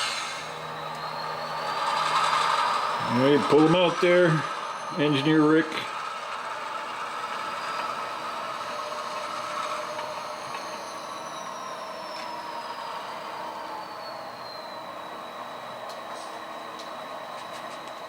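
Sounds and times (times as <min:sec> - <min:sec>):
faint high whine: 0:00.0 - 0:06.7, 0:07.4 - 0:18.0
model train running on track: 0:00.0 - 0:18.0.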